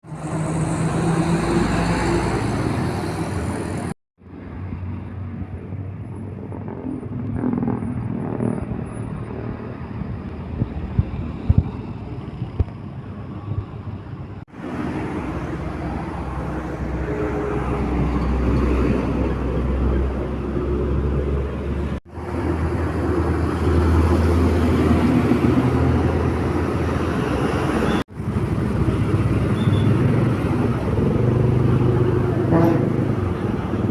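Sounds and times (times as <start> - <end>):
heavy truck engines: 0.0 - 33.9
tyre noise on road: 0.0 - 33.9.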